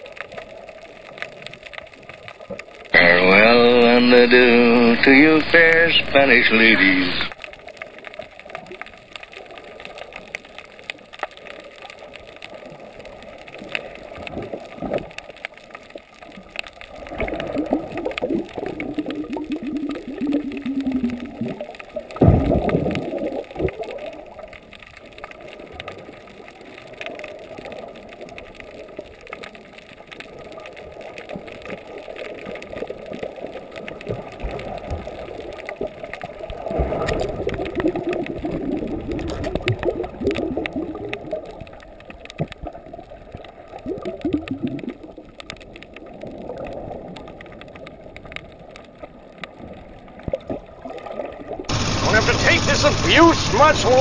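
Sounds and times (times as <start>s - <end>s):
underwater gurgling and sloshing: 0.0s - 54.0s.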